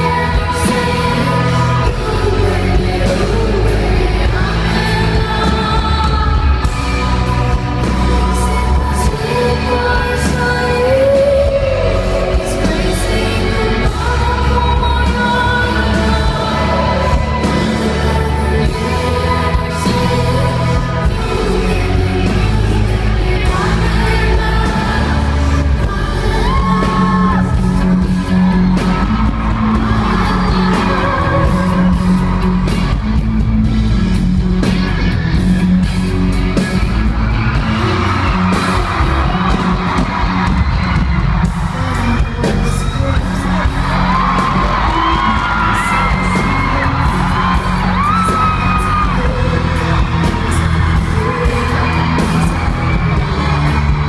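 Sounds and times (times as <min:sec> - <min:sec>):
woman singing: 0:00.0 - 0:33.1, 0:42.0 - 0:53.6
fans yelling and whooping: 0:00.0 - 0:54.0
live pop-rock band: 0:00.0 - 0:54.0.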